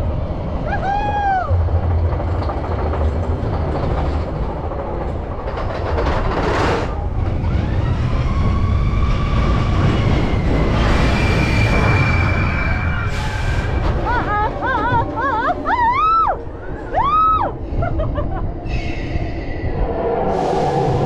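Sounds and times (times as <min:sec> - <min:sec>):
roller coaster wheels rumbling: 0:00.0 - 0:21.0.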